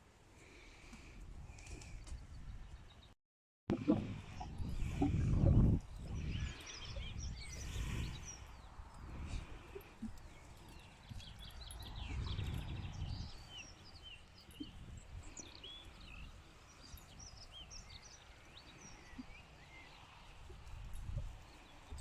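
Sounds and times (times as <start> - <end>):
small birds chirping: 0.4 - 22.0.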